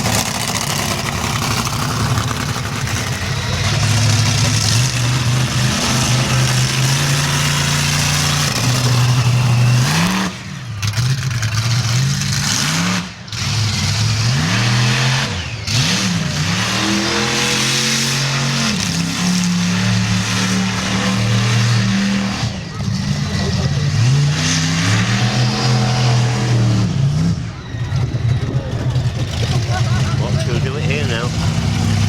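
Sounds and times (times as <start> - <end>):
monster truck engine revving: 0.0 - 32.0.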